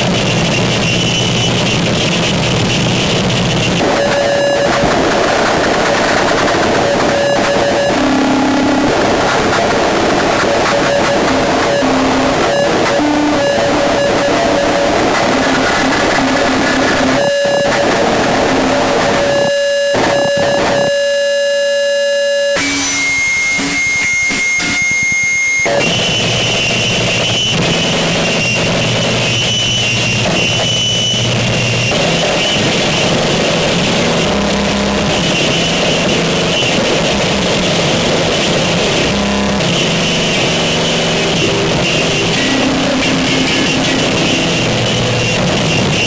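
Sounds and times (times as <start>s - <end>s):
harsh distorted noise music: 0.0s - 21.0s, 22.6s - 46.0s.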